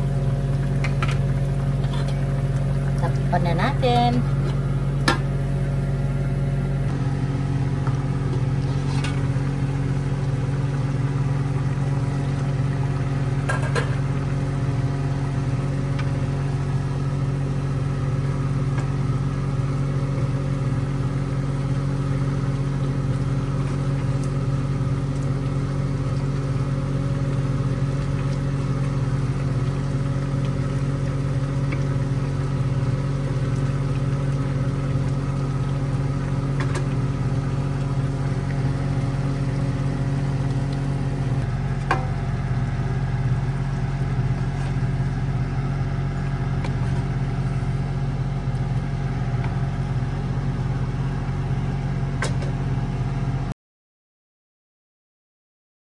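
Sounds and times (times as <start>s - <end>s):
low motor hum: 0.0s - 53.5s.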